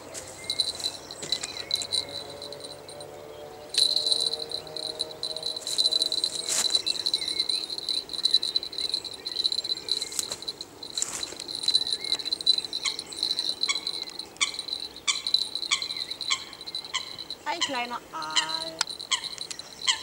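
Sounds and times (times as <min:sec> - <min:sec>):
small bell jingling: 0:00.0 - 0:20.0.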